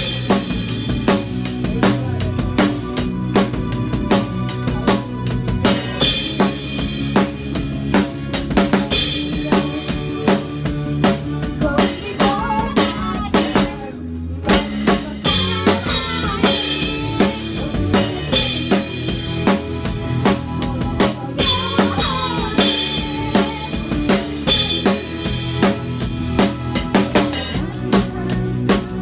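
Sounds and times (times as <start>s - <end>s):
keyboards: 0.0s - 29.0s
live band playing: 0.0s - 29.0s.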